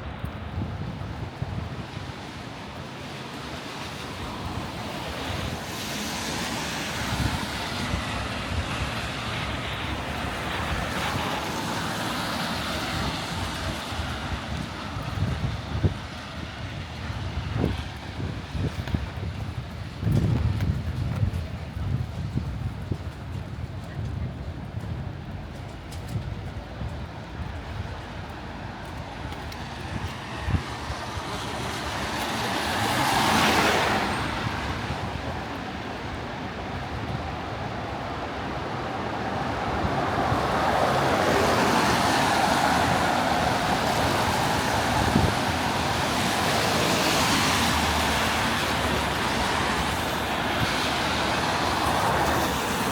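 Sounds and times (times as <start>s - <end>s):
street traffic noise: 0.0s - 52.9s
wind buffeting microphone: 0.0s - 52.9s
tyres hissing on wet road: 0.1s - 20.4s, 26.9s - 52.9s.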